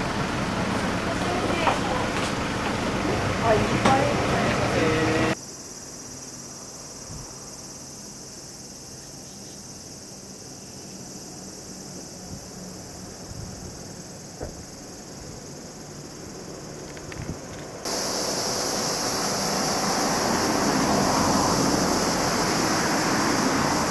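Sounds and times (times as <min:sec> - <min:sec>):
insects chirring: 0:01.2 - 0:23.9.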